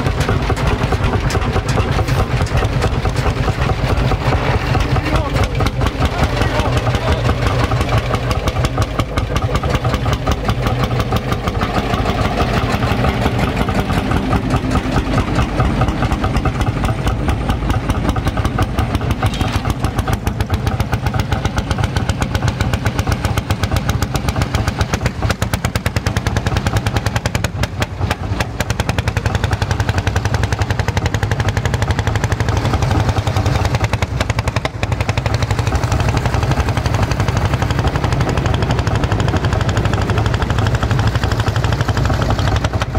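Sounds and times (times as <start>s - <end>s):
tractor engine chugging: 0.0s - 42.9s.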